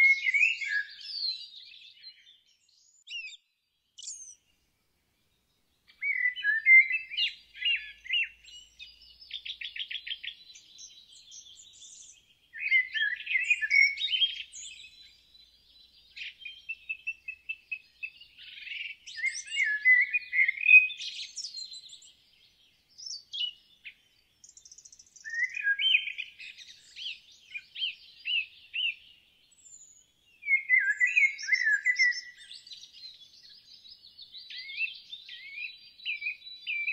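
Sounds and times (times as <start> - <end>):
songbirds chirping: 0.0 - 36.9.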